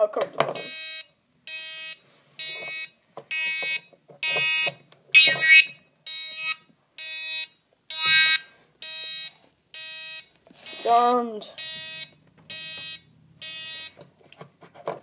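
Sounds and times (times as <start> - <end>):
alarm buzzer pulsing: 0.6 - 3.8, 4.4 - 14.0.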